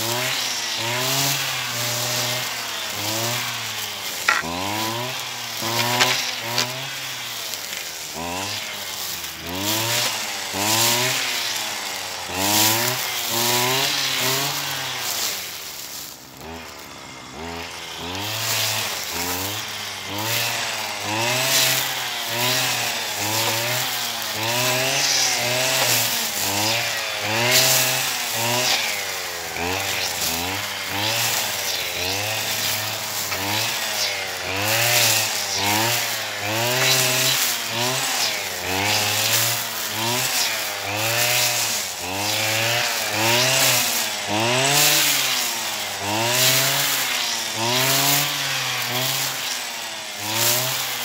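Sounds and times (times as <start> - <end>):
brush cutter engine: 0.0 - 51.0
hiss of grass being cut: 0.0 - 51.0.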